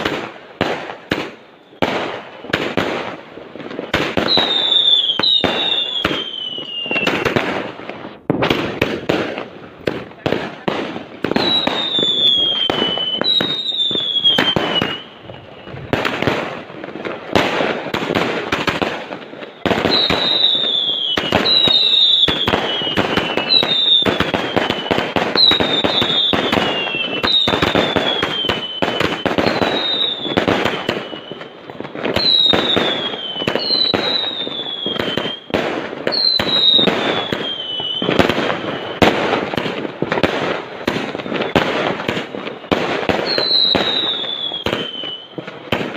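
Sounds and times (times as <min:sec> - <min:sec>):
falling firework whistle: 0:00.0 - 0:09.5, 0:10.1 - 0:45.9
fireworks bangs and crackling: 0:00.0 - 0:45.9.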